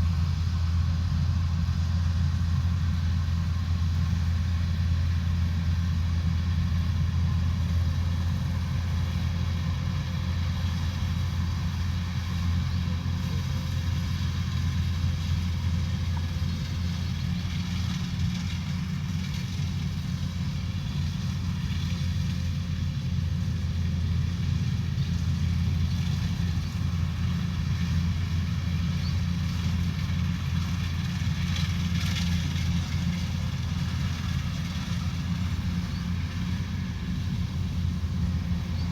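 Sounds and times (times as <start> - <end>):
combine harvester diesel drone: 0.0 - 38.9.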